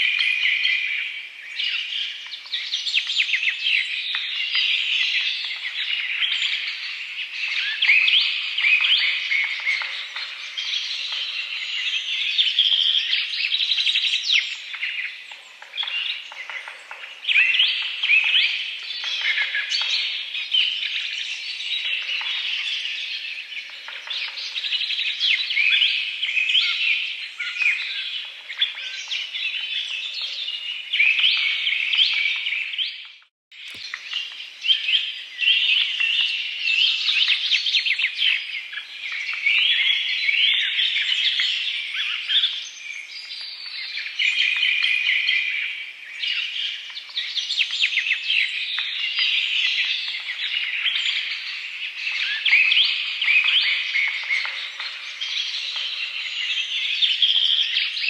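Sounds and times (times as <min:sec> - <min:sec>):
songbirds chirping and singing: 0:00.0 - 0:58.0.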